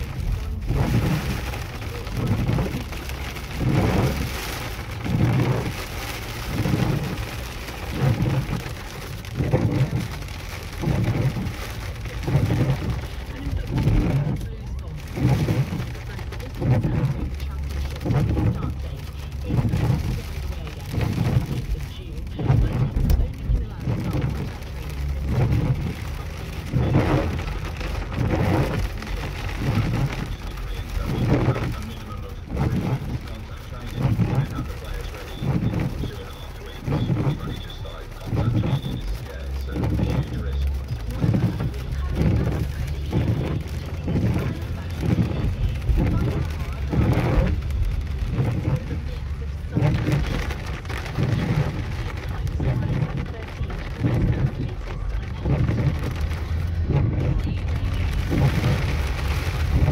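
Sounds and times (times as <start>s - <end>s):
heavy rain and hail on car roof: 0.0s - 59.9s
windscreen wipers sweeping: 0.0s - 59.9s.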